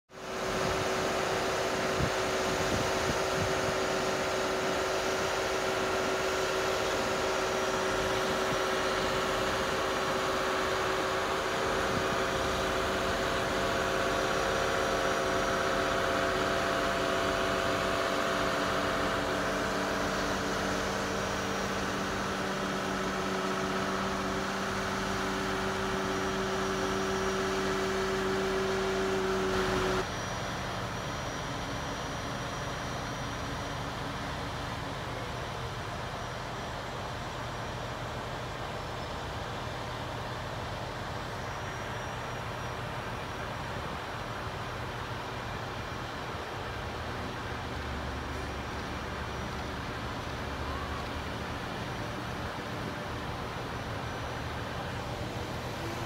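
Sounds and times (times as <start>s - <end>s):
crane engine and hydraulics droning: 0.1s - 56.0s.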